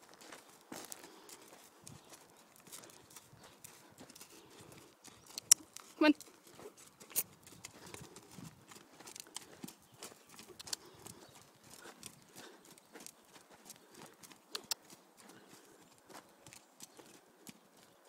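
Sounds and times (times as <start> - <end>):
hoofbeats on dirt: 0.0 - 18.0.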